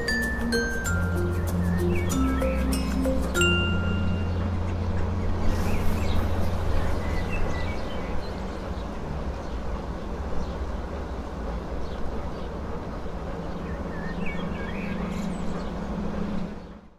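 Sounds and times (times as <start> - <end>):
low engine rumble: 0.0 - 16.9
small birds chirping: 0.0 - 16.9
traffic noise: 0.0 - 16.9.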